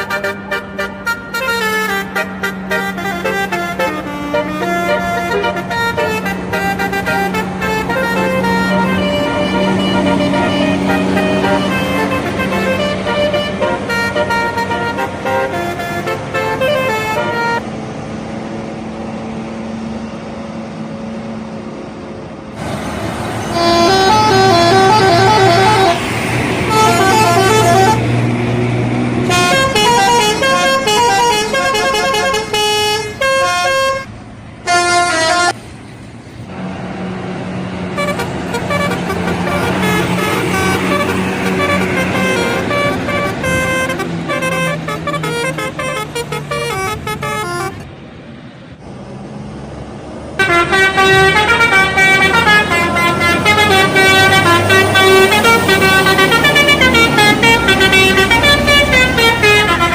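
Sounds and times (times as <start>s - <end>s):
bus horn playing tunes: 0.0s - 17.7s, 22.6s - 35.6s, 37.9s - 47.9s, 50.4s - 59.9s
bus engine running: 0.0s - 59.9s.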